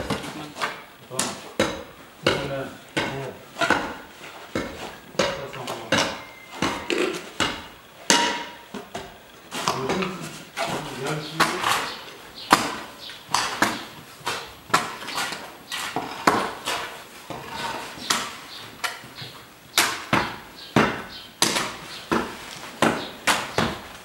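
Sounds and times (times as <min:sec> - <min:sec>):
sharp knocks: 0:00.0 - 0:23.9.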